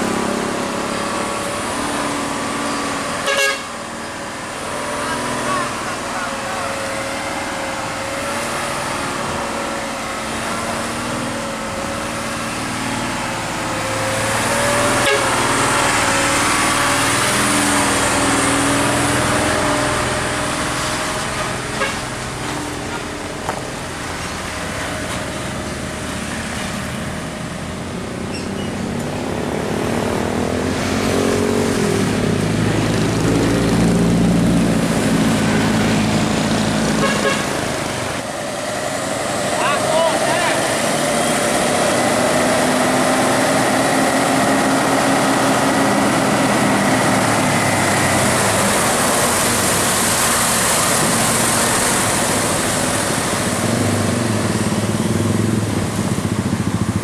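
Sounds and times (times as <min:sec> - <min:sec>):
vehicles passing: 0:00.0 - 0:57.0.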